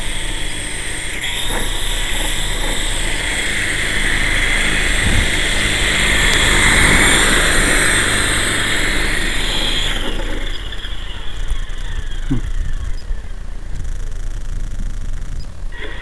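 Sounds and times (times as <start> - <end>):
toy helicopter rotors whining: 0.0 - 16.0.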